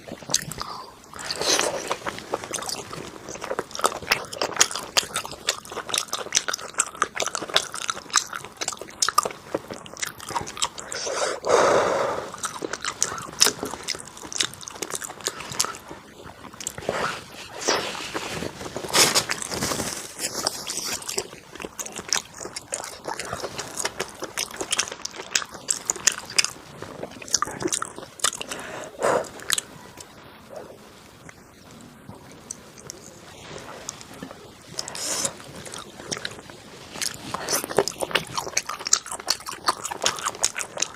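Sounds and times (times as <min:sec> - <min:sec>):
crunchy bites and chewing: 0:00.0 - 0:11.6, 0:12.2 - 0:29.7, 0:32.5 - 0:40.9.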